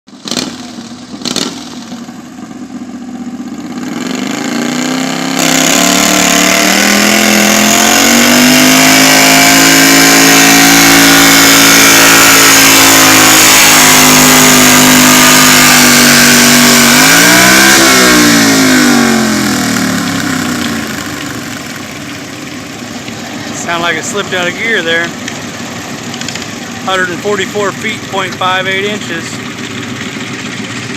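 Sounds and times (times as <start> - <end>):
tractor engine at full throttle: 0.1 - 30.9.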